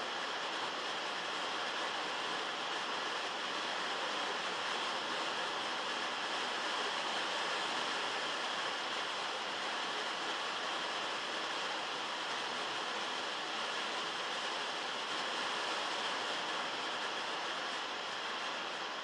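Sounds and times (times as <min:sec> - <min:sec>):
heavy rain on a metal roof: 0:00.0 - 0:19.0.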